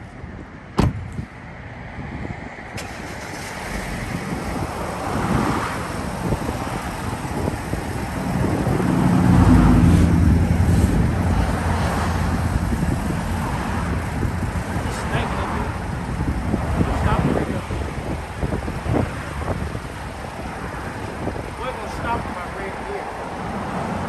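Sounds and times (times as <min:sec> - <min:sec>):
wind buffeting microphone: 0:00.0 - 0:24.0
vehicle engine running: 0:03.3 - 0:22.7.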